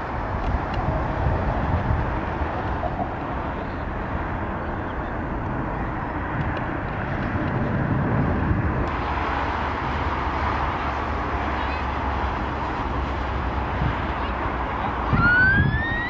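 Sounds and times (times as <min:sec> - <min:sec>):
wind noise on microphone: 0:00.0 - 0:11.5, 0:12.1 - 0:16.0
distant jet engine rumble: 0:00.0 - 0:16.0.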